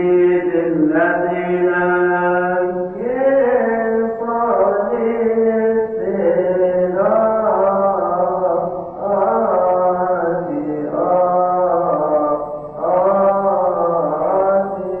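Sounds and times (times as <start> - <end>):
man chanting a hymn: 0.0 - 15.0.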